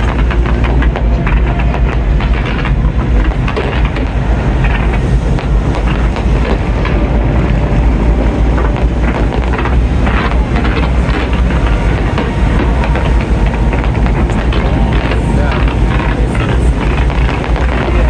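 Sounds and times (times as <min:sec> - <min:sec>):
fireworks crackles and bangs: 0:00.0 - 0:18.0
low booming rumble: 0:00.0 - 0:18.0.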